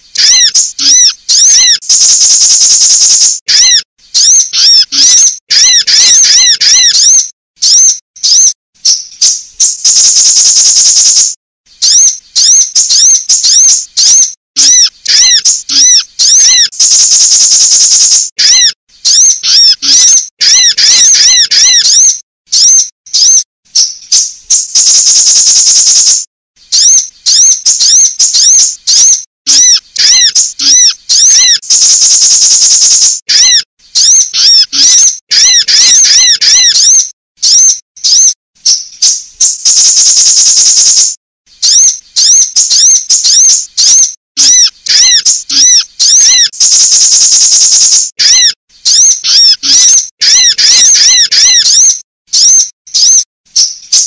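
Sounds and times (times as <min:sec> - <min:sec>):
high buzzing bird trill: 0:00.0 - 0:54.0
sunbird chirps: 0:00.0 - 0:54.0.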